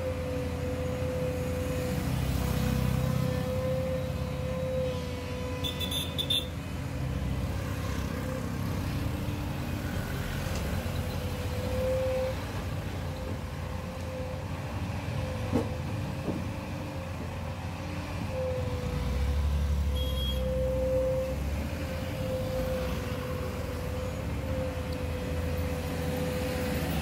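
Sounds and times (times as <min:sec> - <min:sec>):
excavator diesel engine: 0:00.0 - 0:27.0.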